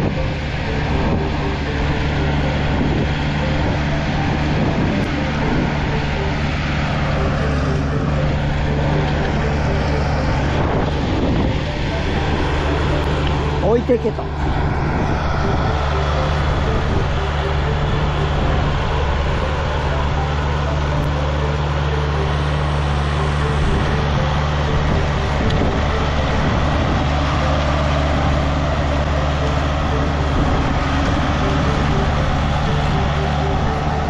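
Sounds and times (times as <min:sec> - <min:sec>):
vehicle engine running steadily: 0:00.0 - 0:34.0.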